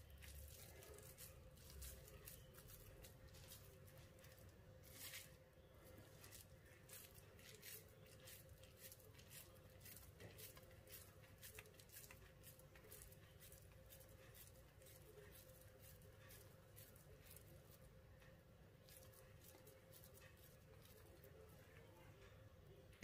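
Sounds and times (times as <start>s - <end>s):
dough squishing between hands: 0.0s - 23.0s
faint steady hum: 0.0s - 23.0s.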